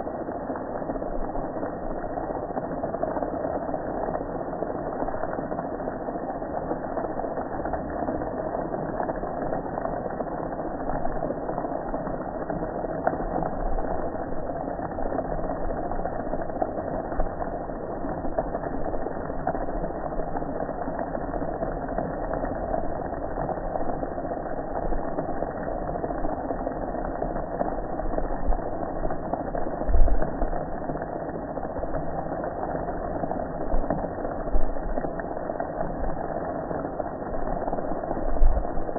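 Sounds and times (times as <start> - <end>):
water jet spraying on grill: 0.0 - 38.9.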